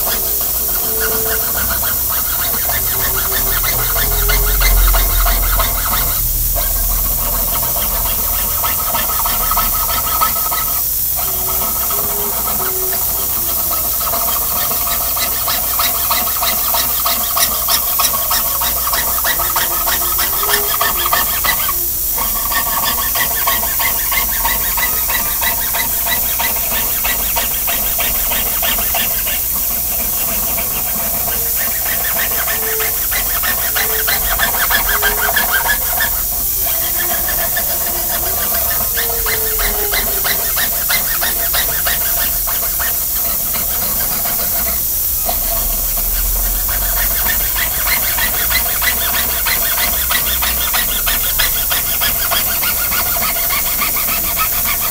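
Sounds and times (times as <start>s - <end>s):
saw rasping through metal sheet: 0.0s - 54.9s.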